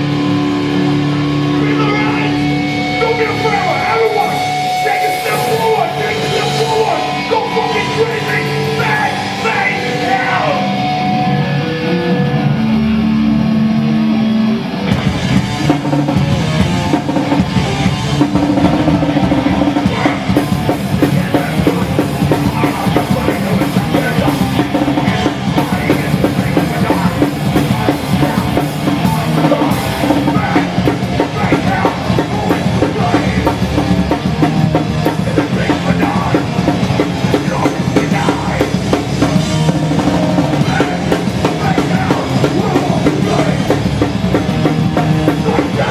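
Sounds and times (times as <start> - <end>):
punk band playing live: 0.0 - 45.9.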